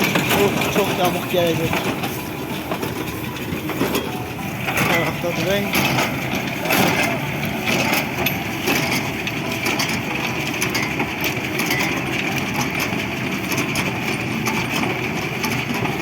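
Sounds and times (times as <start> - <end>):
baler clicking and knocking: 0.0 - 16.0
tractor engine drone: 0.0 - 16.0.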